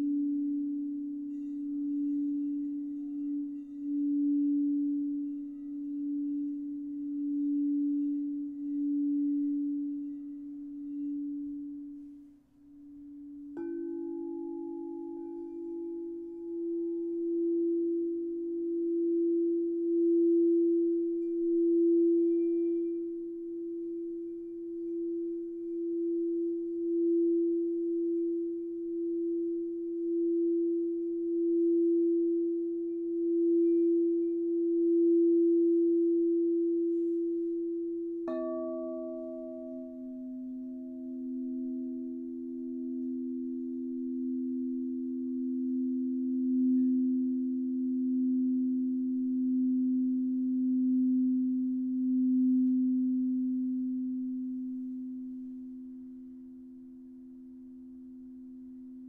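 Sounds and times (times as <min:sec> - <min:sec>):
lower singing bowl ringing: 0:00.0 - 0:59.0
singing bowl tone: 0:00.0 - 0:59.0.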